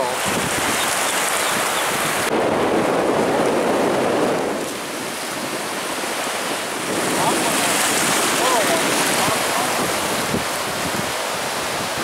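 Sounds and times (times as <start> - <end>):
surf washing over shallows: 0.0 - 12.0.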